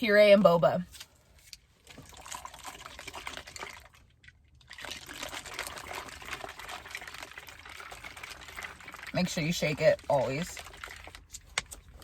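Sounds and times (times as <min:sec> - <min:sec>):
drink sloshing in shaken cup: 0:01.8 - 0:12.0.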